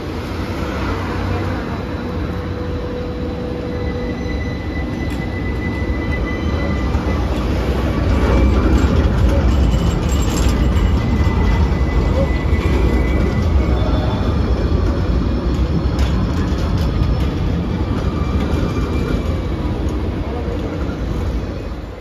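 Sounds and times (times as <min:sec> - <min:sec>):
high wheel squeal on rails: 0:00.0 - 0:22.0
tram rumbling: 0:00.0 - 0:22.0.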